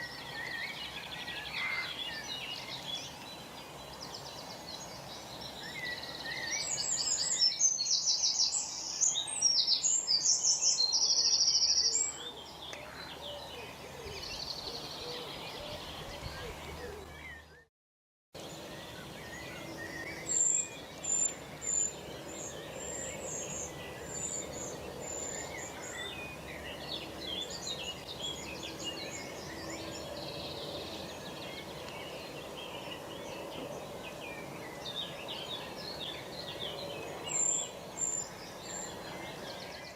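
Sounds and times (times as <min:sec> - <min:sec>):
small birds chirping and trilling: 0:00.0 - 0:17.7, 0:18.4 - 0:39.9.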